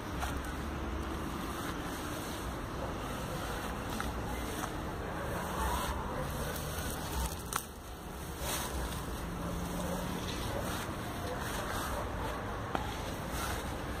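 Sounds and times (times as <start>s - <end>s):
grass rustling and swishing: 0.0s - 14.0s.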